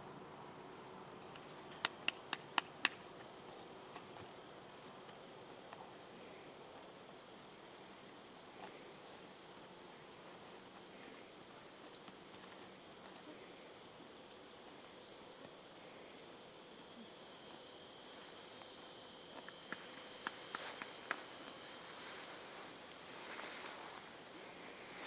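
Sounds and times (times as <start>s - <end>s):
high-pitched insect chorus: 1.0s - 25.0s.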